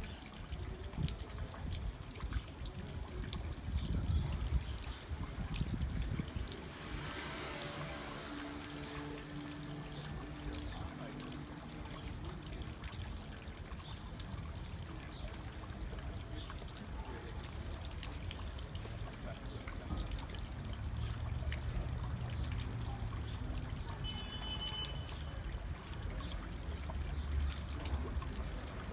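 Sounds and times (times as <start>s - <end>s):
fountain water splashing into basin: 0.0s - 28.9s.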